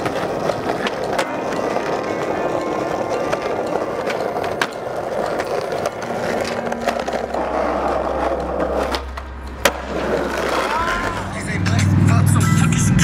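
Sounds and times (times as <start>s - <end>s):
sharp skateboard clack: 0.0s - 11.9s
skateboard wheels on rough concrete: 0.0s - 13.0s.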